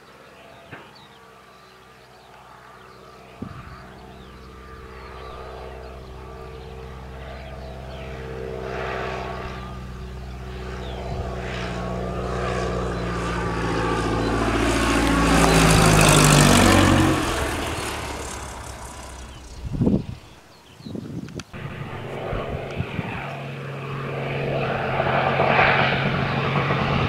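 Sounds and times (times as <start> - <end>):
propeller aircraft passing overhead: 0.0 - 27.0.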